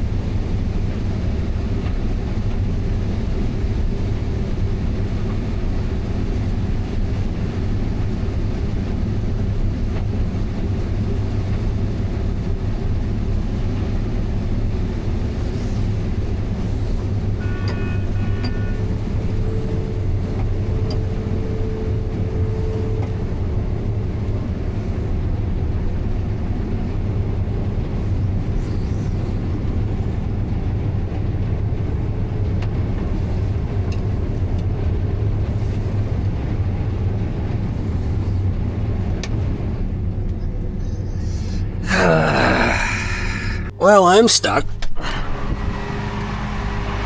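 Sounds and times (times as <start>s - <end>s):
heavy vehicle engine droning: 0.0s - 47.0s.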